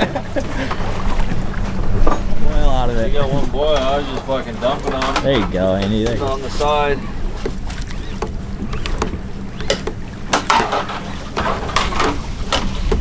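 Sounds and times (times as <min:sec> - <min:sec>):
boat engine hum: 0:00.0 - 0:13.0
water sloshing against hull: 0:00.0 - 0:13.0.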